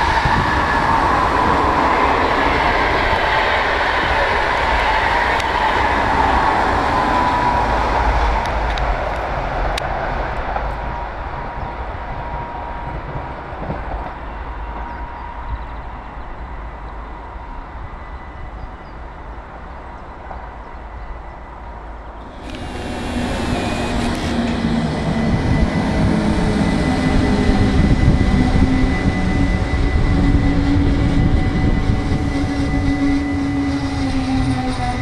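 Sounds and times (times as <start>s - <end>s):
electric train passing: 0.0s - 35.0s.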